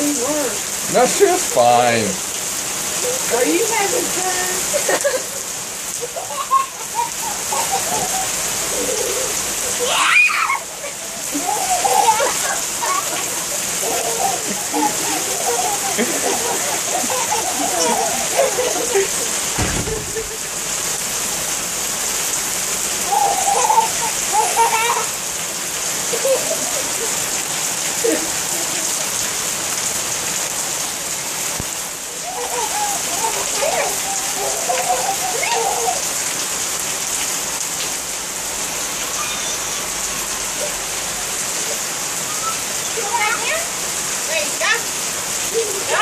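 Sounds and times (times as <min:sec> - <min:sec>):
rain splashing on pavement: 0:00.0 - 0:46.0.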